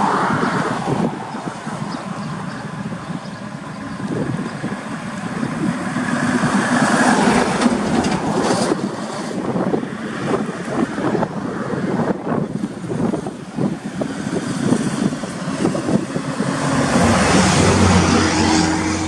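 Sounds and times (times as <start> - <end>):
truck diesel engine approaching: 0.0 - 19.0
wind on microphone: 0.0 - 19.0.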